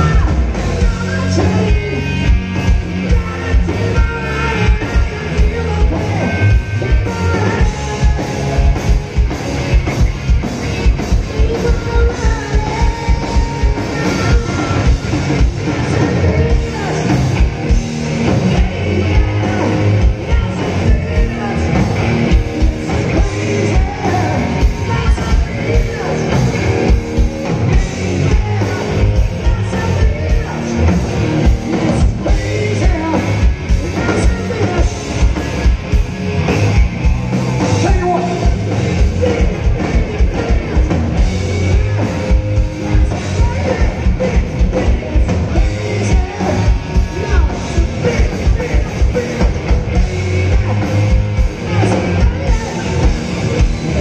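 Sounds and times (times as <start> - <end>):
bass guitar: 0.0 - 54.0
distorted electric guitar: 0.0 - 54.0
lead singer singing: 0.0 - 54.0
pounding drum kit: 0.0 - 54.0.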